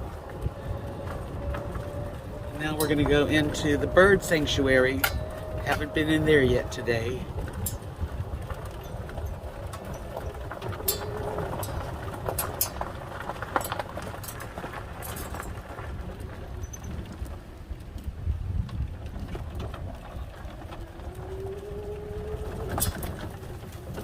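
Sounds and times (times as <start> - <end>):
low microphone rumble: 0.0 - 24.0.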